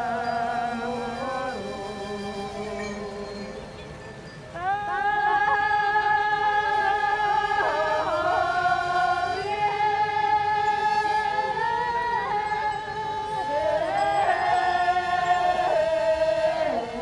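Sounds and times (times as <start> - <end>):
women singing in unison: 0.0 - 3.9, 4.5 - 17.0.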